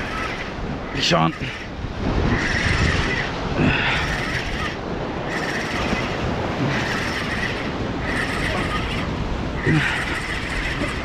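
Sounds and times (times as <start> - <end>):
ocean surf against rocks: 0.0 - 11.0
wind buffeting microphone: 0.0 - 11.0.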